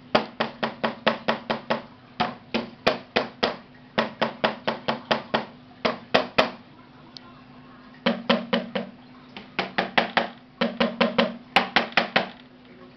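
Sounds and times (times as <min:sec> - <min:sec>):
drumstick tapping drum pad: 0:00.0 - 0:06.6, 0:08.0 - 0:12.4
faint hum: 0:00.0 - 0:12.9.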